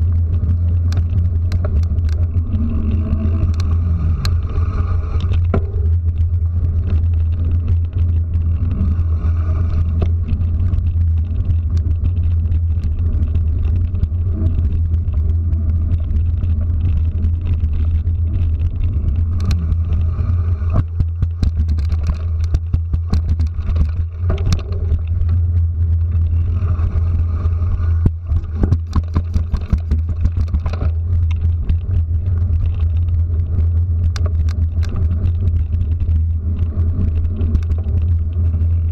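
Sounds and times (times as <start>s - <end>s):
motorbike ride rumble and wind: 0.0s - 38.9s
sharp clicks and knocks: 0.0s - 38.9s.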